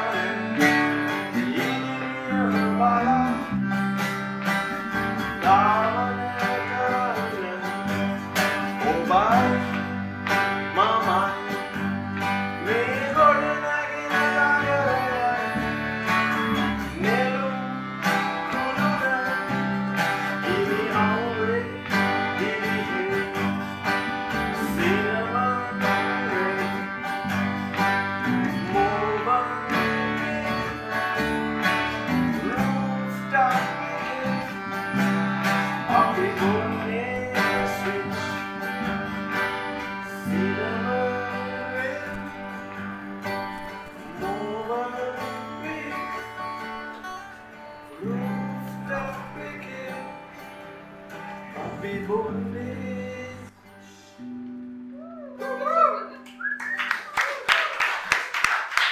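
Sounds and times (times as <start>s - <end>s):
man singing: 0.0s - 3.8s, 4.7s - 54.2s
strummed acoustic guitar: 0.0s - 56.6s.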